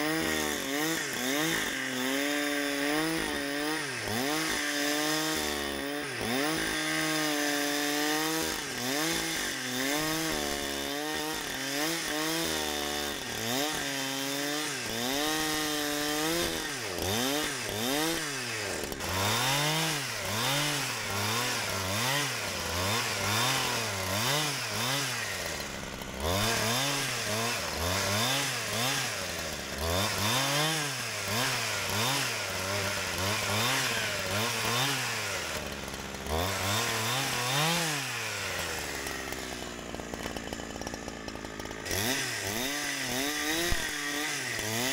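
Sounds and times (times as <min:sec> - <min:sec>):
chainsaw cutting through log: 0:00.0 - 0:44.9.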